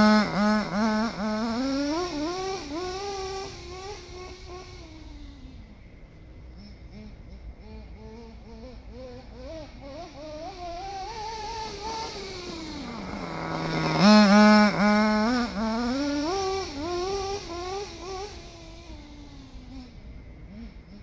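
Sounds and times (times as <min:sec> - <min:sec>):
toy truck motor whining: 0:00.0 - 0:05.6, 0:06.6 - 0:21.0.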